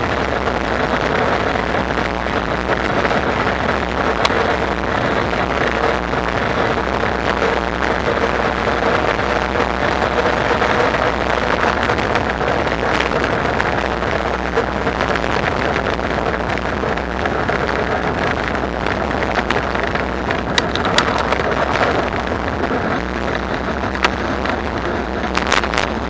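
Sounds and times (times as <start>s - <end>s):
e-bike riding rush: 0.0s - 26.0s.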